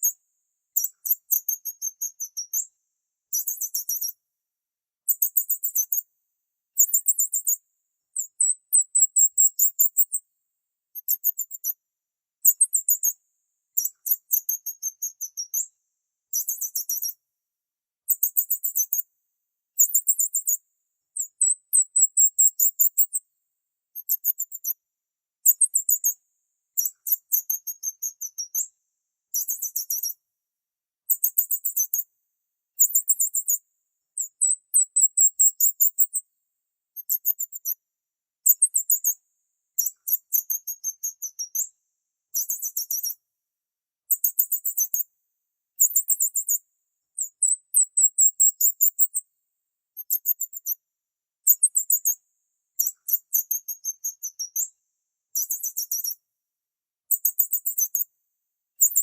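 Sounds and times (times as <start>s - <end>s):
small bird chirping in trills: 0.0s - 4.2s, 5.0s - 6.1s, 6.7s - 10.3s, 10.9s - 17.2s, 18.0s - 19.1s, 19.8s - 23.3s, 23.9s - 30.2s, 31.0s - 32.1s, 32.8s - 36.3s, 36.9s - 37.8s, 38.4s - 43.3s, 44.1s - 45.1s, 45.8s - 49.3s, 49.9s - 56.3s, 57.1s - 58.2s, 58.8s - 59.0s.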